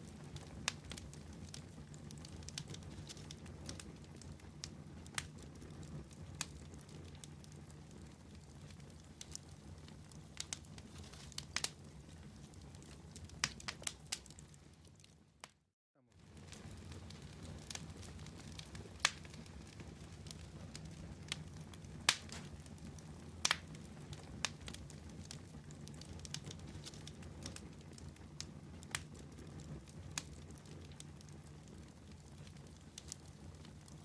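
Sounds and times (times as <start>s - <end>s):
campfire crackling and popping: 0.0s - 34.0s
low steady fire rumble: 0.0s - 34.0s.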